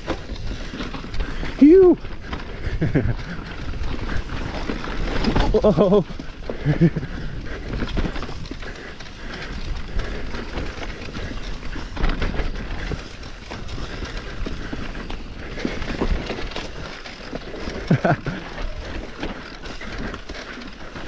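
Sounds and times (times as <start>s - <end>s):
bike knocking and rattling: 0.0s - 21.0s
tyres rolling over dirt: 0.0s - 21.0s.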